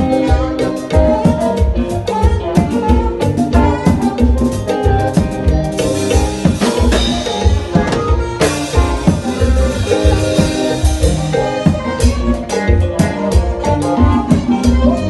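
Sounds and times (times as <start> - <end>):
drum kit beat: 0.0 - 15.0
live band music: 0.0 - 15.0.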